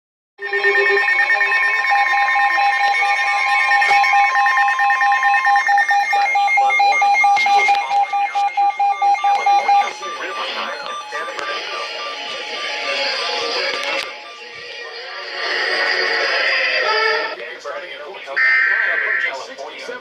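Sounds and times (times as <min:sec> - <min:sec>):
beeping tone: 0:00.4 - 0:17.4, 0:18.3 - 0:19.5
electronic alert tones: 0:00.4 - 0:17.4, 0:18.3 - 0:19.5.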